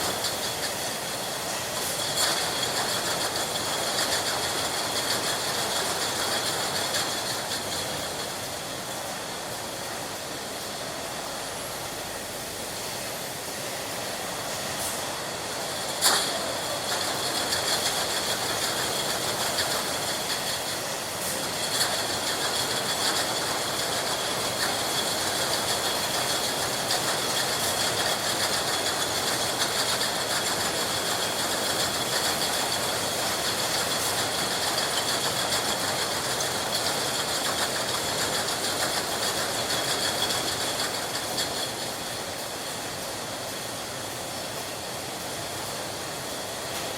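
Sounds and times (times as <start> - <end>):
continuous fine clatter: 0.0 - 10.3, 14.4 - 46.9
steady machinery noise: 0.0 - 46.9.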